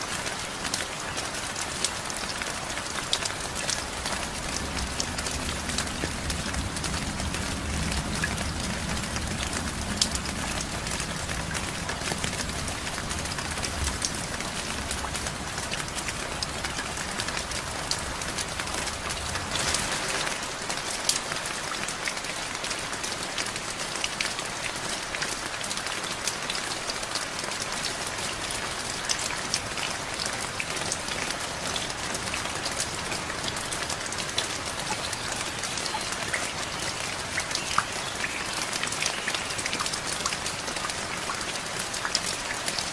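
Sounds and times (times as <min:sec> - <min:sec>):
steady rain patter: 0:00.0 - 0:42.9.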